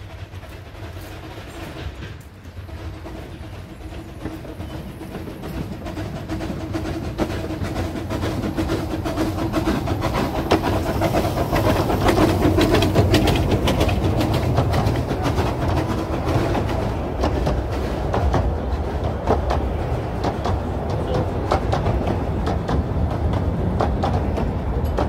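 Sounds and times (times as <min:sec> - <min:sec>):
steam locomotive passing: 0:00.0 - 0:25.0
train wheels clicking over rail joints: 0:00.0 - 0:25.0.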